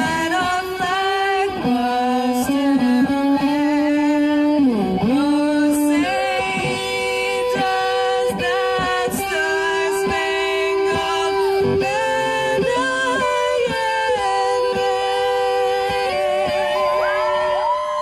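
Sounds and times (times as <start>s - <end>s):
electric guitar: 0.0s - 18.0s
woman singing: 0.0s - 18.0s.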